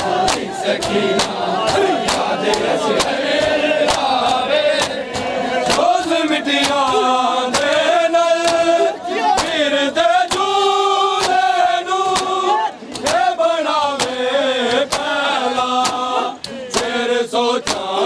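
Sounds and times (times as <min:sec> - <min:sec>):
men chanting: 0:00.0 - 0:18.0
hands slapping chests: 0:00.2 - 0:09.6, 0:10.3 - 0:13.3, 0:13.9 - 0:17.0, 0:17.6 - 0:18.0.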